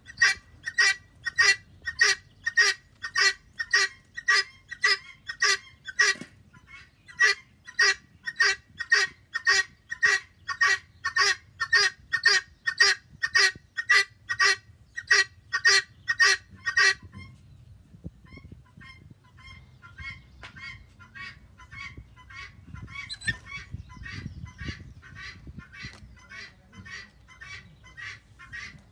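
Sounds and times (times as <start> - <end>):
guineafowl harsh repeated calls: 0.0 - 17.3, 18.3 - 28.9.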